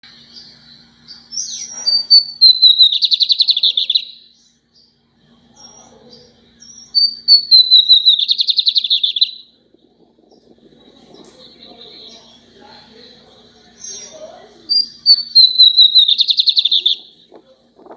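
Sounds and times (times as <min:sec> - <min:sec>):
bird song with buzzy trill: 0:00.0 - 0:17.9.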